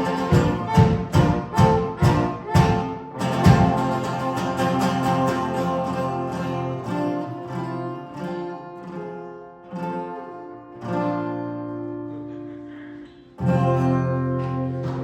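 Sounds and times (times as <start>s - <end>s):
guitar strummed chords: 0.0s - 15.0s.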